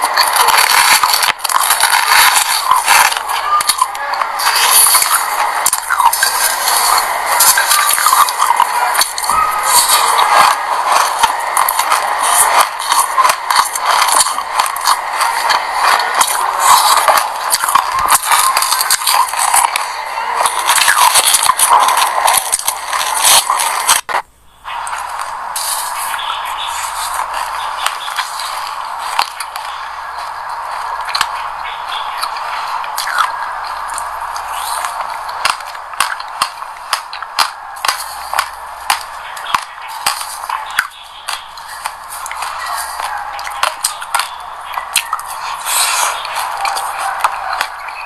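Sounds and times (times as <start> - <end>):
chewing crunchy seeds: 0.0 - 24.1, 24.8 - 48.0.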